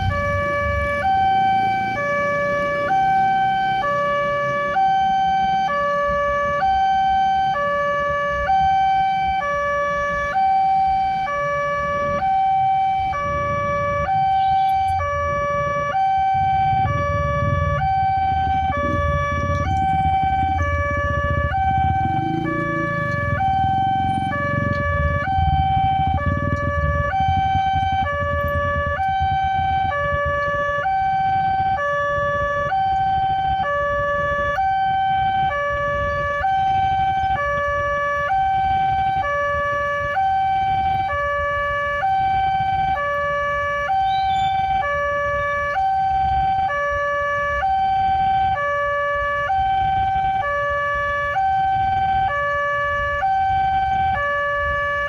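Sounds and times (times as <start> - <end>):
motorbike traffic rumble: 0.0 - 55.0.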